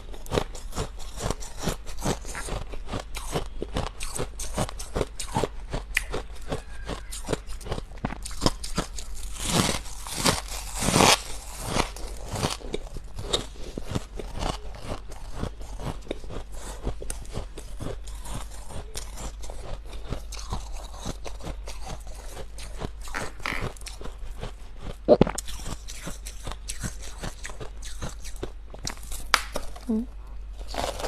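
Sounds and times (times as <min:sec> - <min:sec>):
chewing crunchy frost: 0:00.0 - 0:31.0.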